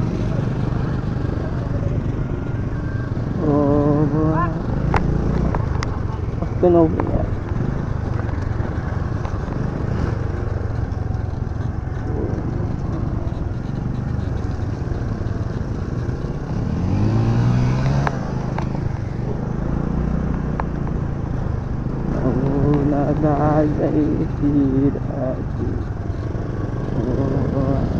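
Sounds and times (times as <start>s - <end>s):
engine revving: 0.0s - 27.9s
scooter engine running: 0.0s - 27.9s
wind and road noise: 0.0s - 27.9s.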